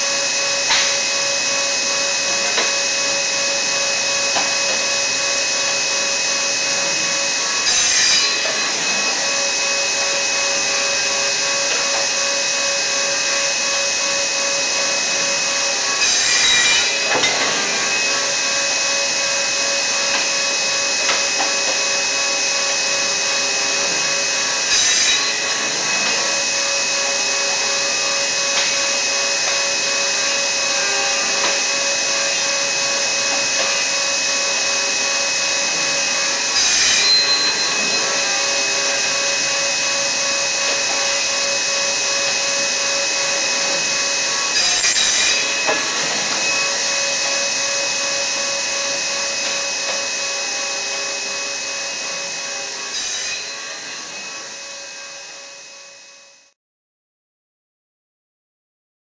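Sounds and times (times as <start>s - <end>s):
panel saw running: 0.0s - 56.5s.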